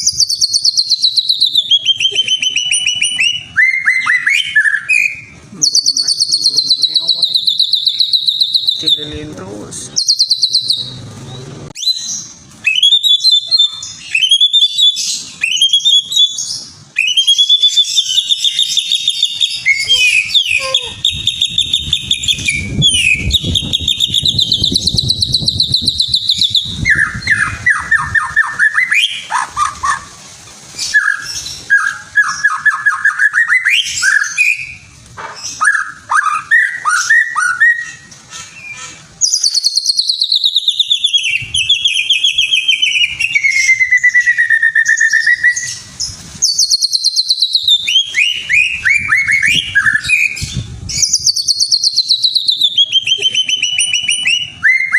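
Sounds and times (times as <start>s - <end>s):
songbird trilling song: 0.0s - 30.0s, 30.9s - 34.9s, 35.5s - 54.9s.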